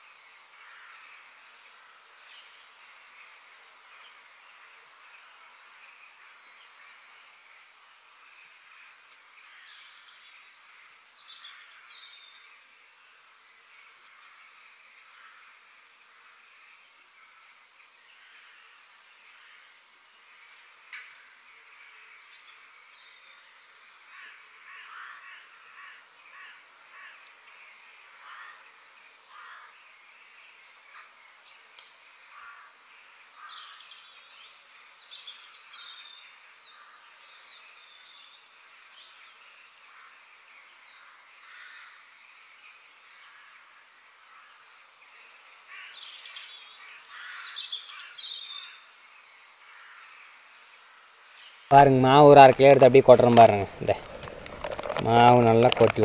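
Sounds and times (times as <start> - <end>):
faint birdsong: 0.0 - 56.0.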